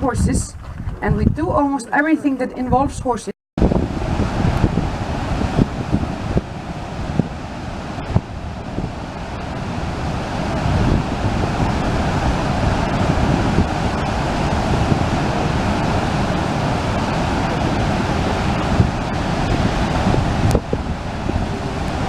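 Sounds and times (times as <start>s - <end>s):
wind buffeting microphone: 0.0s - 22.0s
waterfall rushing: 3.6s - 22.0s.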